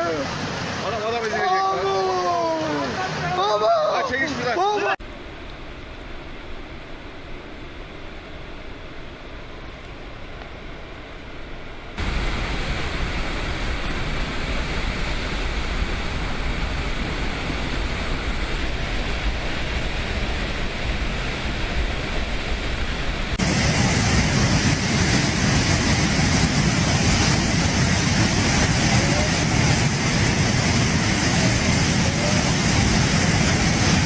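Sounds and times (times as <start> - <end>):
floodwater rushing: 0.0 - 34.0.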